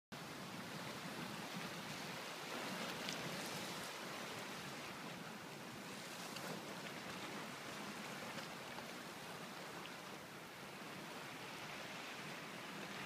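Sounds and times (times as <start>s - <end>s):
surf washing on beach: 0.2s - 13.0s.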